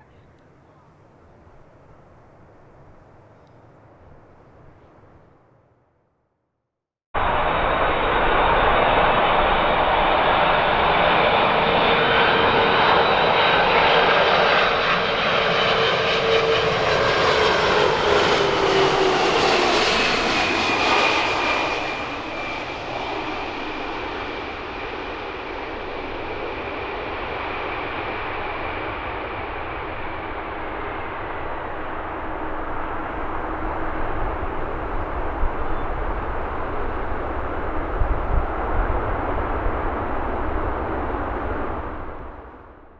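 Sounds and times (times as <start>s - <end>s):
jet engines passing close: 7.2s - 42.9s.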